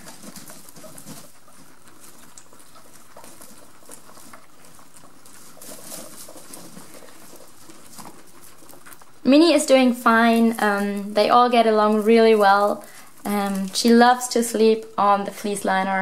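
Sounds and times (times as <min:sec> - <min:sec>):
dry hay rustling: 0:00.0 - 0:16.0
guinea pigs munching hay: 0:00.0 - 0:16.0.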